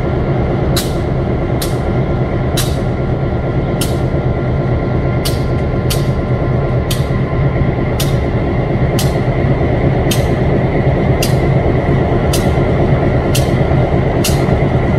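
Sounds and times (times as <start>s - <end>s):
diesel locomotive engine rumble: 0.0s - 14.9s.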